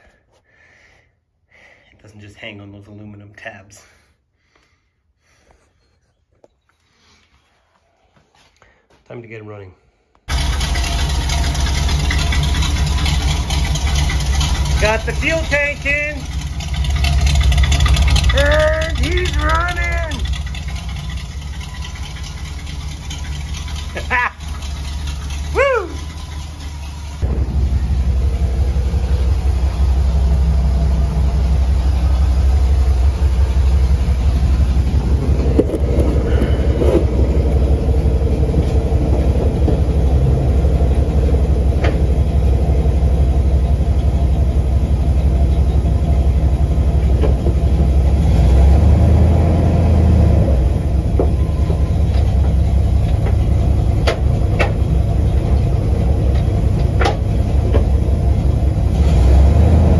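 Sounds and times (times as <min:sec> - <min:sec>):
truck engine idling: 0:10.3 - 0:59.9.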